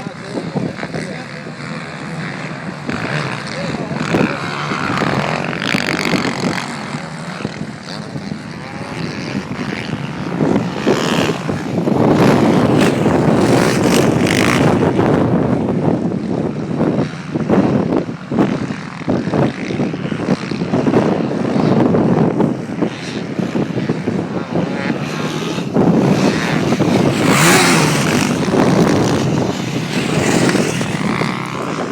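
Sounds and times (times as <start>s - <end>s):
motocross bike engine running: 0.0s - 31.9s.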